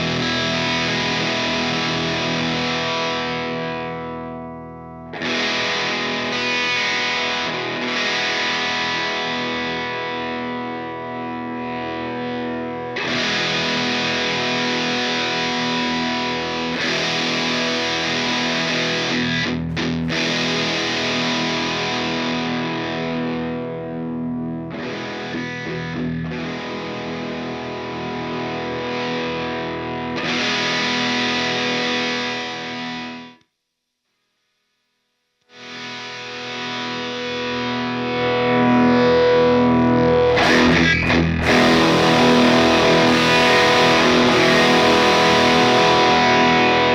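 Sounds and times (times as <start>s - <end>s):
distorted electric guitar chords: 0.0s - 33.4s, 35.5s - 46.9s.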